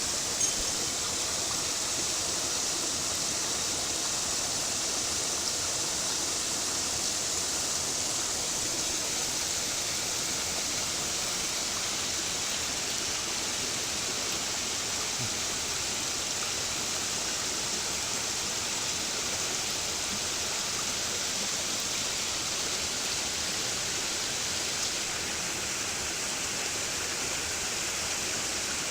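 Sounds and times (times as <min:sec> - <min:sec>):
stream water rushing over rocks: 0:00.0 - 0:28.9.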